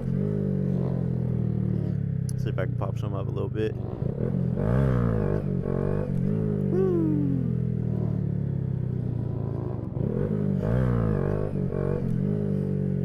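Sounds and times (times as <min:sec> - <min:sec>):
motorcycle engine revving: 0:00.0 - 0:02.8, 0:03.5 - 0:13.0.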